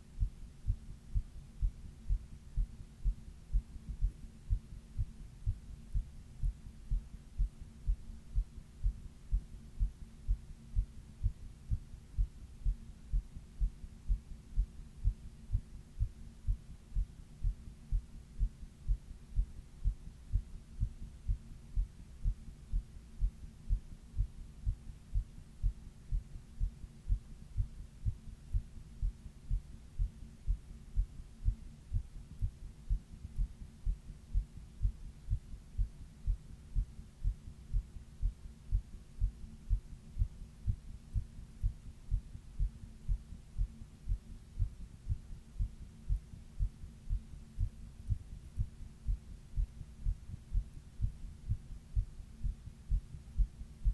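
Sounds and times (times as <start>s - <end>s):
faint steady hum: 0.0s - 53.9s
heartbeat thuds: 0.0s - 53.9s.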